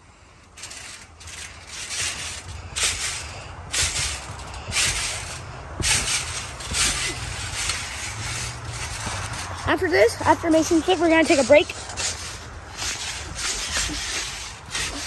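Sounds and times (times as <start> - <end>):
trampoline mat swishing: 0.2 - 15.0.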